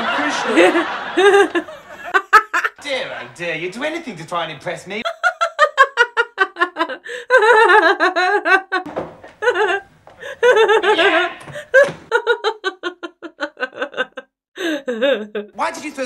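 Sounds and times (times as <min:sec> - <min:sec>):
woman laughing hard: 0:00.0 - 0:02.8, 0:05.0 - 0:15.6.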